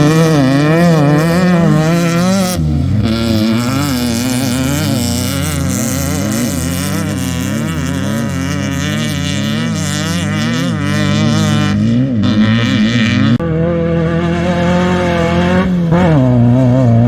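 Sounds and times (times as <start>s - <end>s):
engine revving up and down: 0.0s - 17.0s.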